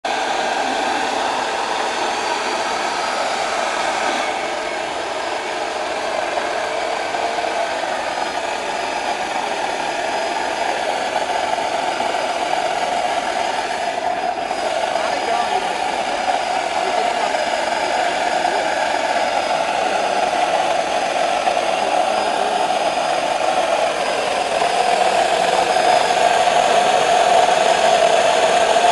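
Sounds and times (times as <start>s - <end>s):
turbojet engine roaring: 0.0s - 28.9s.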